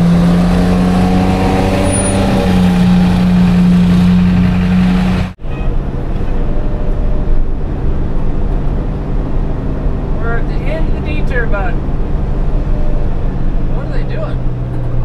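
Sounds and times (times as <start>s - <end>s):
engine and road noise inside cab: 0.0s - 15.0s
truck engine droning: 0.0s - 15.0s.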